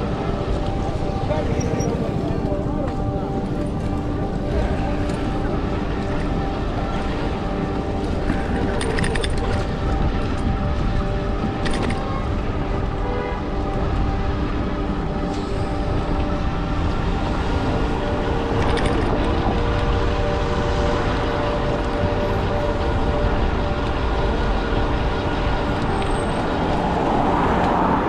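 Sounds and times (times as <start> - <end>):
road noise: 0.0 - 28.0
wind rumbling on microphone: 0.0 - 28.0.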